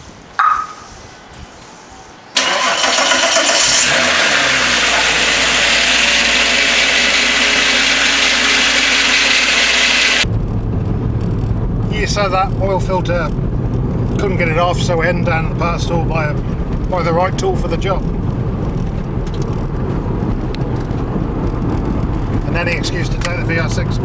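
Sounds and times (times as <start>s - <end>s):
car engine starting and idling: 2.4s - 24.0s.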